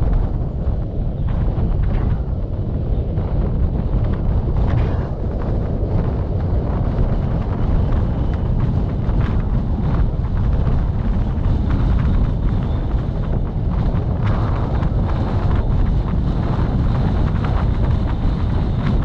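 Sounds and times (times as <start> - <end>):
vehicle road and engine noise: 0.0 - 19.0
wind blowing across microphone: 0.0 - 19.0.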